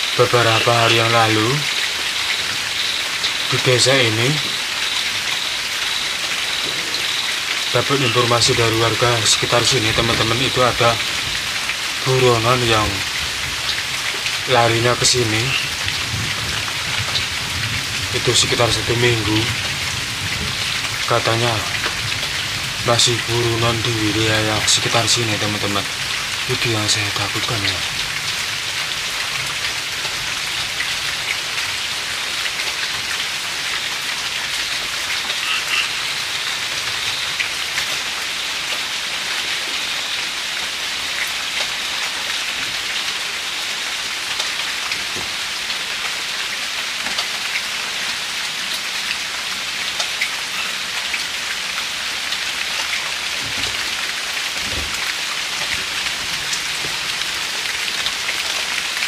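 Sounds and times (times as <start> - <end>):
light rain pattering: 0.0 - 59.0.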